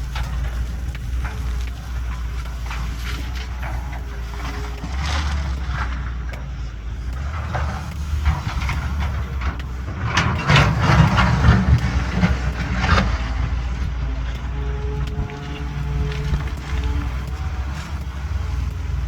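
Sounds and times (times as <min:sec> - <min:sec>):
clattering knocks: 0:00.0 - 0:19.0
excavator diesel engine running: 0:00.0 - 0:19.0.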